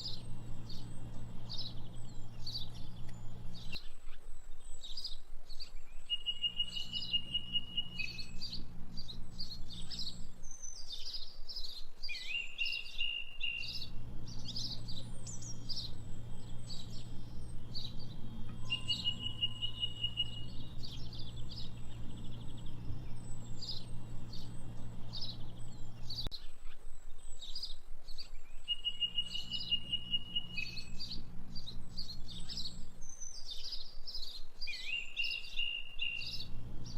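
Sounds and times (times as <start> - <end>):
bird trill: 0.0 - 36.9
low steady hum: 0.0 - 36.9
songbirds chirping: 0.0 - 36.9.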